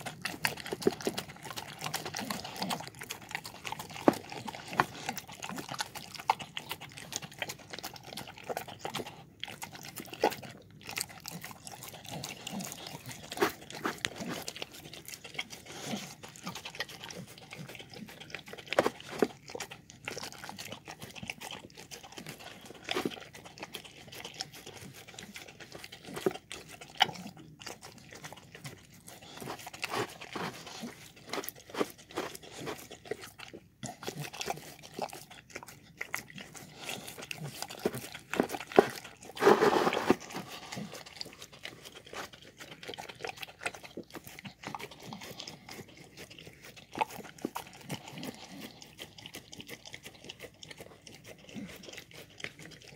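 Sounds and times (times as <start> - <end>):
dog crunching and chewing food: 0.0 - 52.9.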